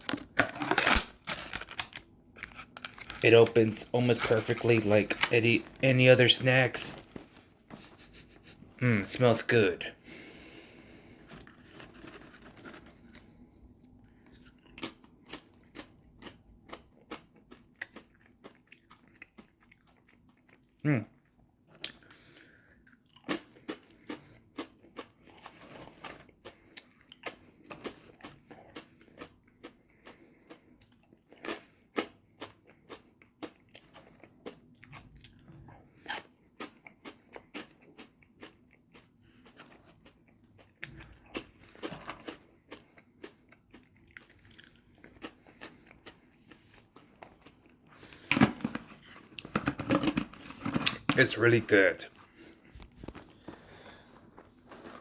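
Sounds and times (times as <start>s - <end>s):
person chewing crunchy snacks: 0.0s - 8.2s, 11.0s - 55.0s.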